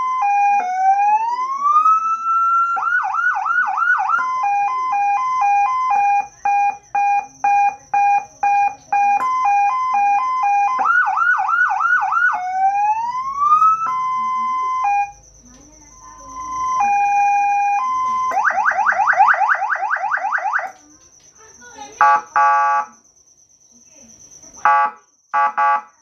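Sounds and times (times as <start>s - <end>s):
electronic vehicle siren: 0.0s - 20.8s, 22.0s - 23.0s, 24.6s - 25.9s.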